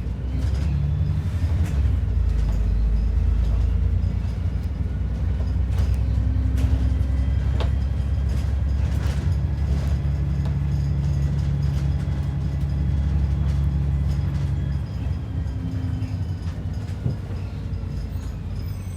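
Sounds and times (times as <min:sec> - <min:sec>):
bus engine drone: 0:00.0 - 0:18.9
bodywork rattles and clicks: 0:01.5 - 0:18.4.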